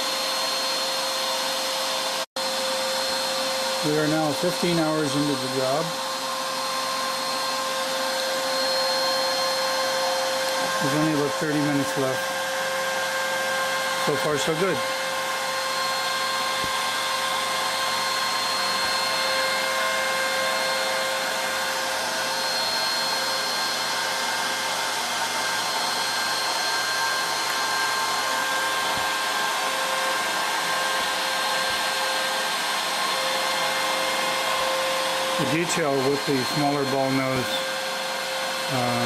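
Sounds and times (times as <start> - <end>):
cnc router spindle whining: 0.0 - 39.0.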